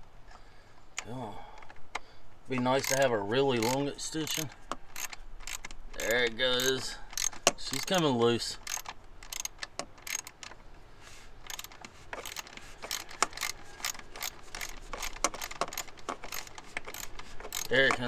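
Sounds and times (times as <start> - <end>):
ratchet wrench clicking: 2.6 - 10.6, 11.4 - 18.0.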